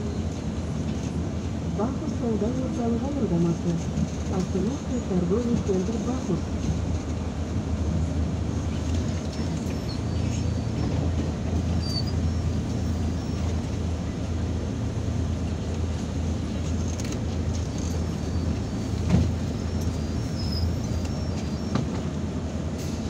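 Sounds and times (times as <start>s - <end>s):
bus engine idling: 0.0s - 23.0s.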